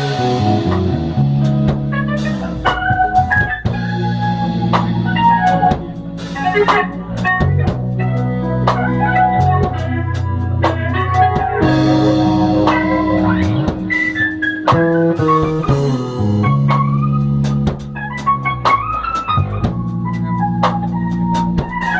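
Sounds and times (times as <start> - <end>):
drum kit: 0.0 - 21.9
electric bass solo: 0.0 - 21.9
organ: 0.0 - 21.9.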